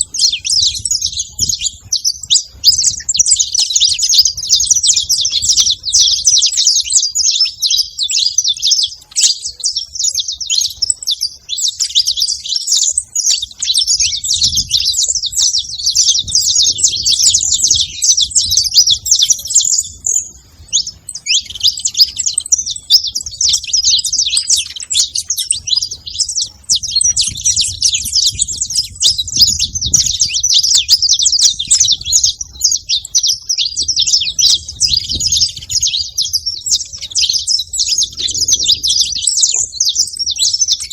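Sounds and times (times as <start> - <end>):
finch singing high chirps and trills: 0.0 - 40.9.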